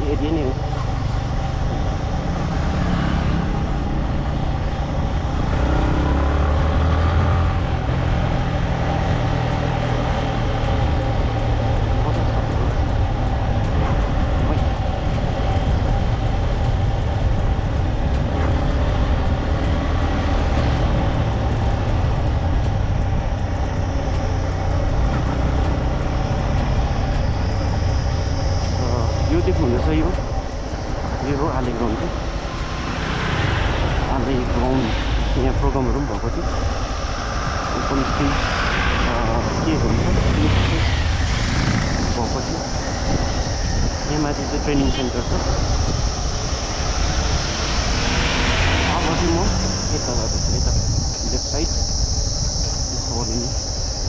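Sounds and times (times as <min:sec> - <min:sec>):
motorcycle engine: 0:00.0 - 0:54.0
road noise: 0:00.0 - 0:54.0.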